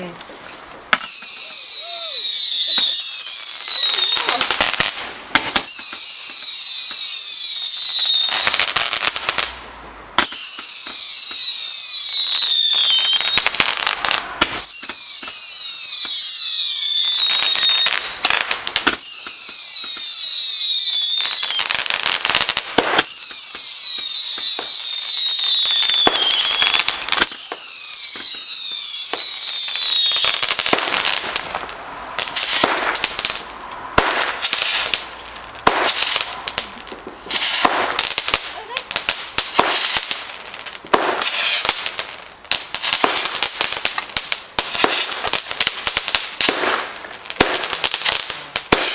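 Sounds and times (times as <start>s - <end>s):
fireworks crackling and popping: 0.0s - 48.9s
whistling fireworks: 0.9s - 48.9s.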